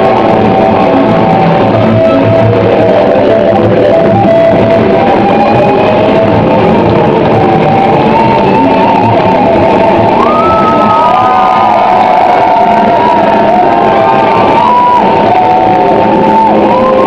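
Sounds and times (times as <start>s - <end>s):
electric guitars playing rock: 0.0s - 17.0s.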